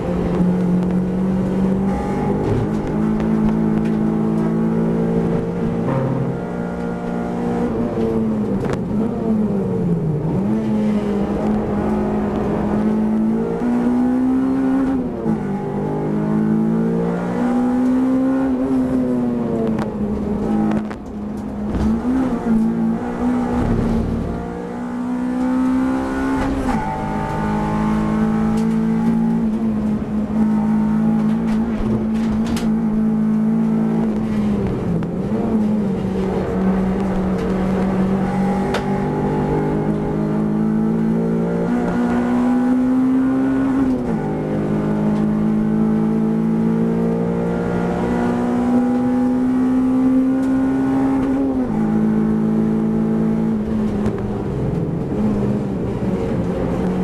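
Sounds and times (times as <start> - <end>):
race car engine from inside cabin: 0.0 - 57.0.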